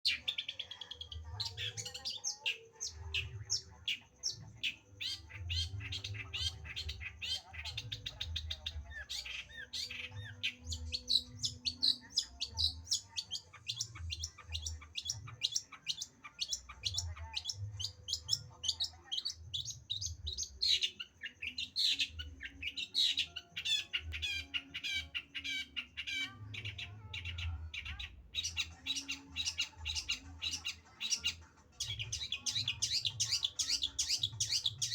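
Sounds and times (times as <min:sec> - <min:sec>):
bird singing: 0:00.0 - 0:34.9.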